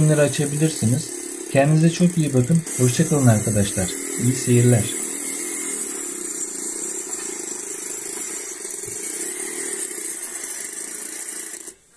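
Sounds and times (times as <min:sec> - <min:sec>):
engine-like drone with hiss: 0:00.0 - 0:11.9.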